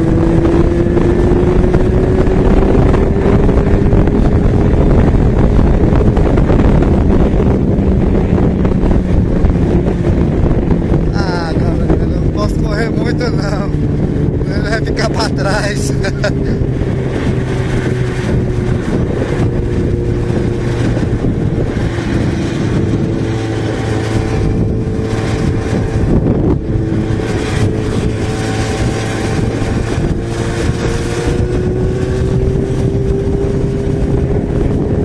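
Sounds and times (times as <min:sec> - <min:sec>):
motorcycle engine running: 0:00.0 - 0:35.0
wind rushing over microphone: 0:00.0 - 0:35.0.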